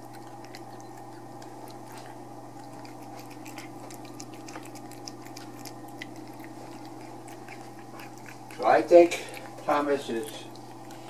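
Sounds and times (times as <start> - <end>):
cat chewing and licking food: 0.0 - 11.0
steady low hum: 0.0 - 11.0.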